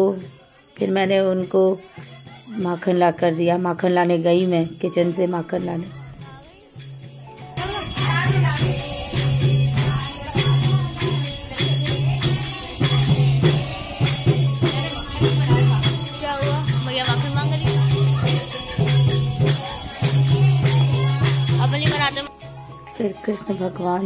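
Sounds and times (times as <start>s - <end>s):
jingling hand percussion: 0.0s - 24.0s.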